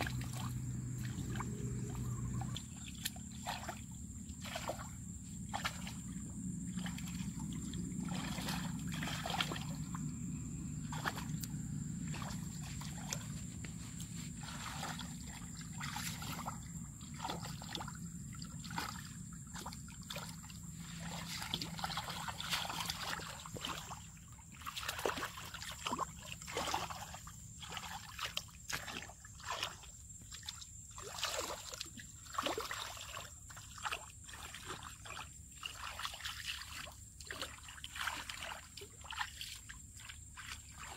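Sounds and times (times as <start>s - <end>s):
muddy water sloshing and splashing: 0.0s - 40.9s.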